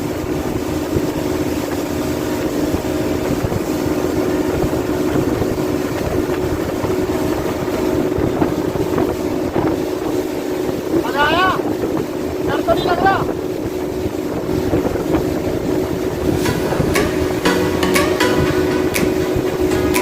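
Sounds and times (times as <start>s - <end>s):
speedboat engine running: 0.0s - 20.0s
wind on microphone: 0.0s - 20.0s.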